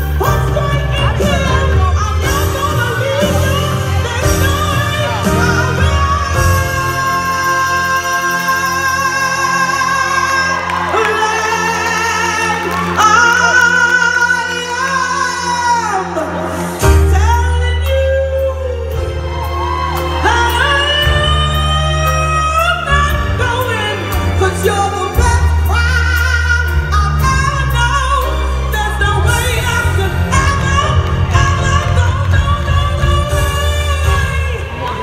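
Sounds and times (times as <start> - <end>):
woman singing into a microphone: 0.0 - 35.0.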